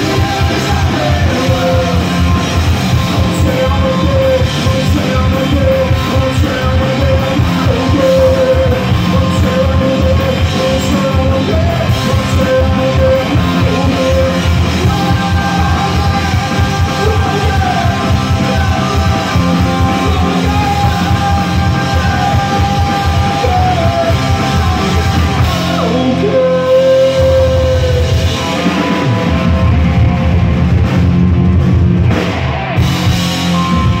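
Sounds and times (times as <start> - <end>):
sung vocals: 0.0 - 29.8
punk rock band playing live: 0.0 - 34.0.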